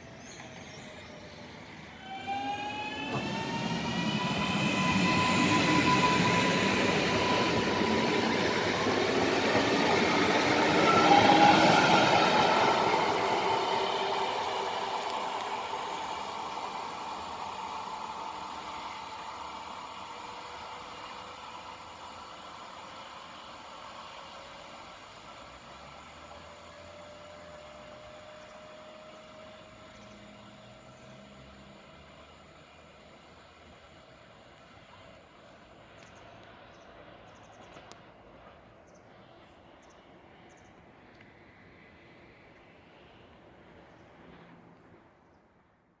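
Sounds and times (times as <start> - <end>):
electric train whine: 0.0 - 45.1
train wheels on rails: 0.0 - 45.1.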